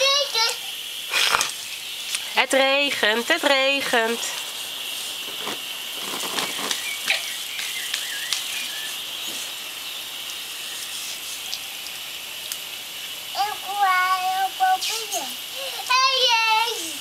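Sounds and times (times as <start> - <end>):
garden sprinkler spraying water: 0.0 - 17.0.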